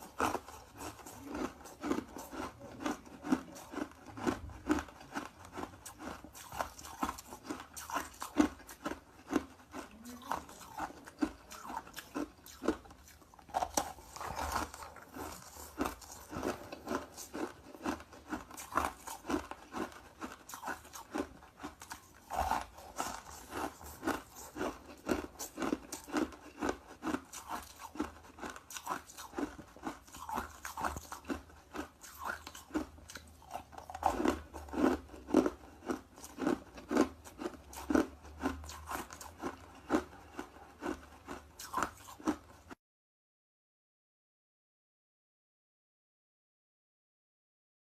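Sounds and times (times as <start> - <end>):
ice crunching while chewed: 0.0 - 42.8.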